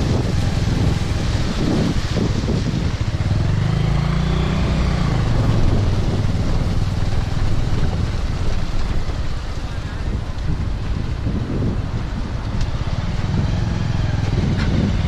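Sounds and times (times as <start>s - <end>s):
motorcycle engine running: 0.0s - 15.0s
road noise: 0.0s - 15.0s
wind hiss: 0.0s - 15.0s.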